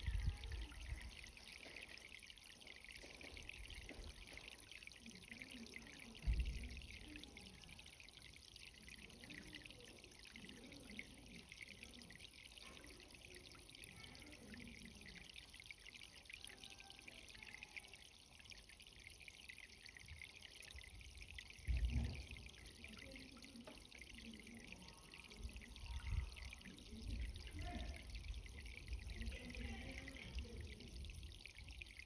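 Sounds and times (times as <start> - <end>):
water trickling and pouring: 0.0 - 32.0.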